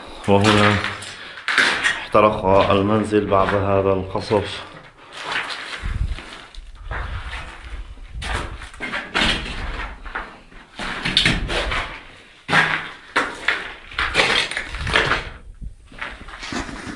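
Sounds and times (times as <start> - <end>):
footsteps on rubble: 0.0 - 16.9.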